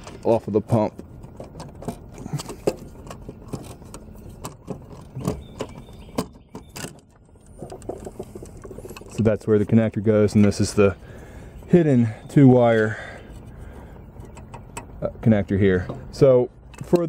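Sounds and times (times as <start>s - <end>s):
hands clicking and rattling parts: 0.0s - 11.0s, 12.3s - 17.0s.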